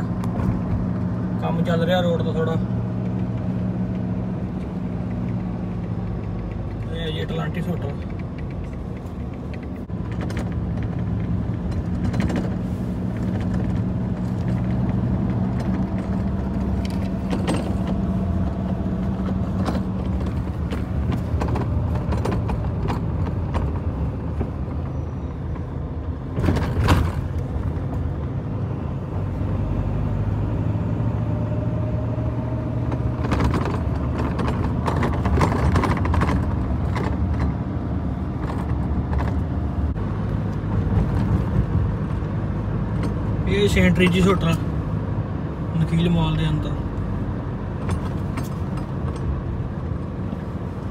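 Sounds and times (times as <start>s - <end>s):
car engine and road hum: 0.0s - 50.9s.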